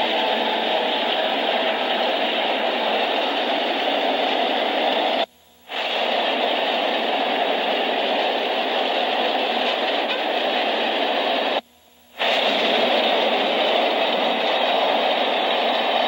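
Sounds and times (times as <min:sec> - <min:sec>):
freight train cars rolling: 0:00.0 - 0:11.6, 0:12.2 - 0:16.0
film soundtrack hiss: 0:00.0 - 0:16.0.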